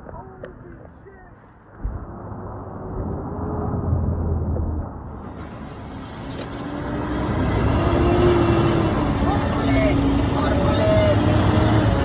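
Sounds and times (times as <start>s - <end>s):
highway traffic rumble: 0.0s - 12.0s
truck engine and tyres: 0.0s - 12.0s.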